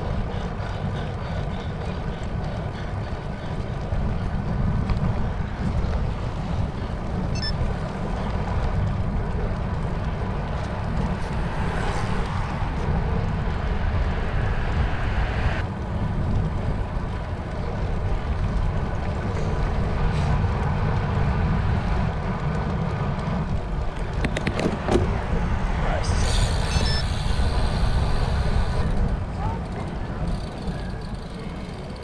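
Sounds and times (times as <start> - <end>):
road and tyre noise: 0.0 - 32.0
wind buffeting microphone: 0.0 - 32.0.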